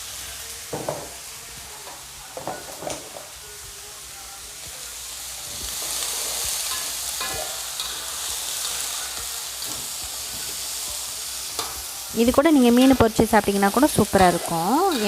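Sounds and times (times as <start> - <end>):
beans sizzling in hot oil: 0.0 - 15.0.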